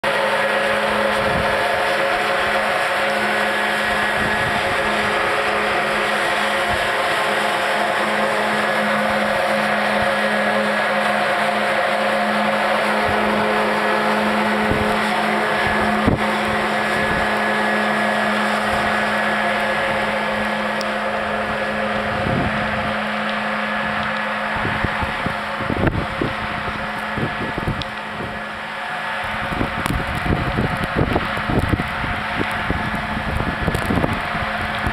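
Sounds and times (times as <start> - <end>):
snow machine drone: 0.0 - 34.9.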